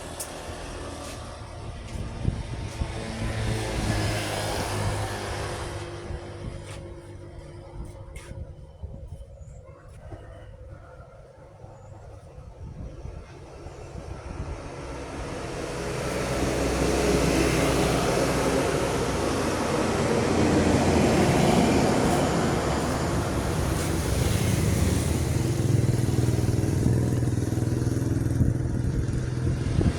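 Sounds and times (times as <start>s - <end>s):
vehicle engine and tyres: 0.0s - 29.9s.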